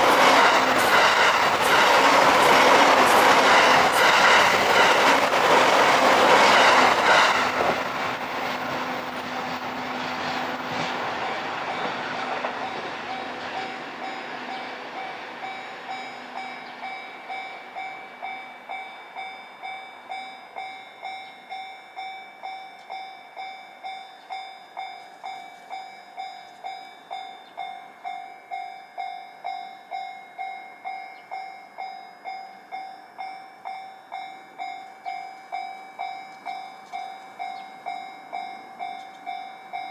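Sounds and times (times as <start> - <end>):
level crossing warning bell: 0.0 - 39.9
train passing: 0.0 - 39.9.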